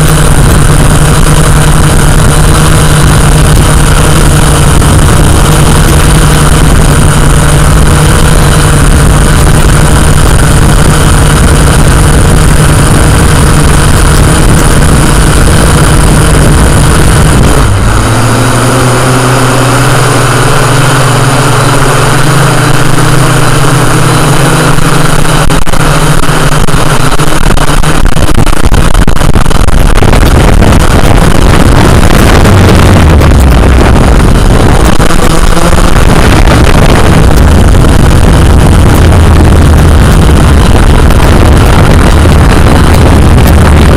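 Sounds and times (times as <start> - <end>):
drone propellers humming: 0.0 - 43.9.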